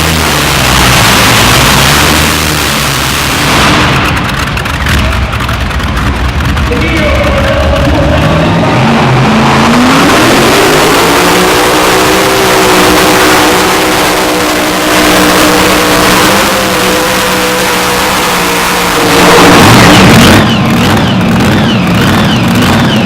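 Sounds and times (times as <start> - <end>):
tractor engine at full power: 0.0 - 23.0.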